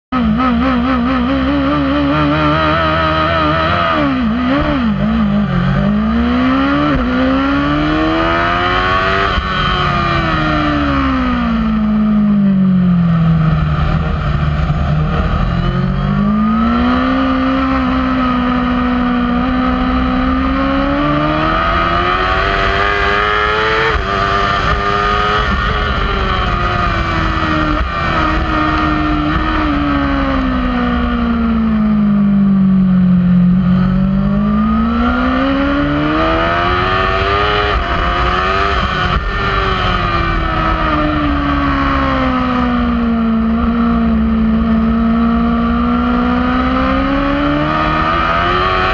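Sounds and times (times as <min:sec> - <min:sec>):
motorcycle engine revving: 0:00.1 - 0:48.9.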